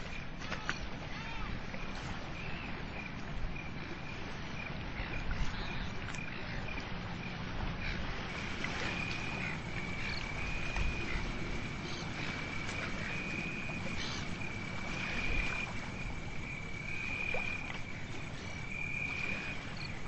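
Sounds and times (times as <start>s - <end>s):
cricket chirping: 1.4s - 20.0s
low background rumble: 2.5s - 20.0s.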